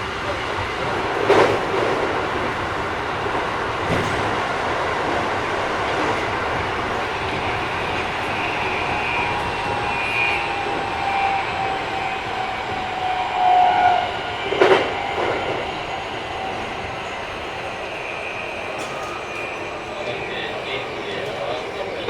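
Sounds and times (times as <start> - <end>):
wheel and rail rolling noise: 0.0 - 22.0.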